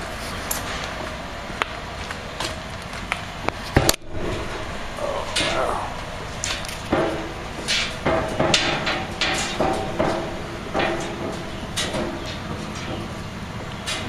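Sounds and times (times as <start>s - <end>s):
footsteps on metal stairs: 0.0s - 14.0s.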